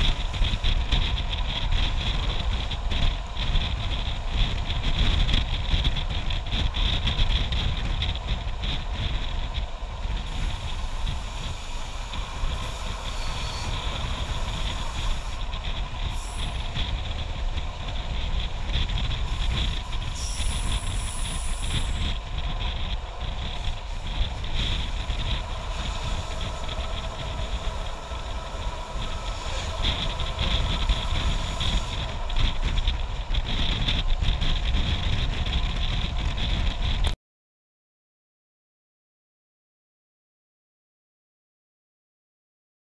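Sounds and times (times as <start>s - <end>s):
train carriages rumbling on rails: 0.0s - 37.2s
wind buffeting microphone: 0.0s - 37.2s.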